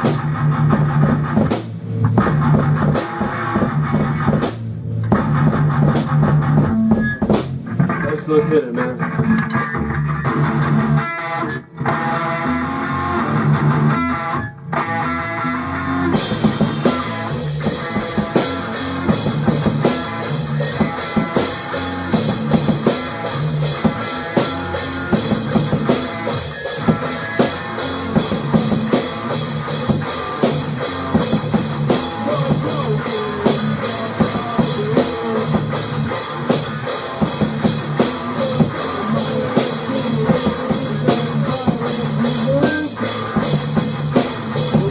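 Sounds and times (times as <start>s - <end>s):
electric guitar: 0.0s - 44.9s
rock band playing: 0.0s - 44.9s.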